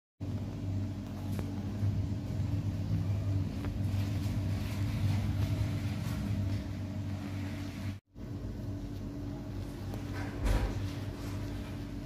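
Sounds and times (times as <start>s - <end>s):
low machine hum: 0.2s - 12.0s.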